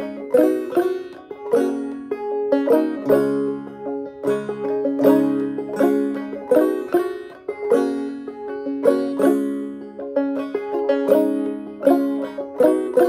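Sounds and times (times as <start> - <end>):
banjo melody: 0.0 - 13.0.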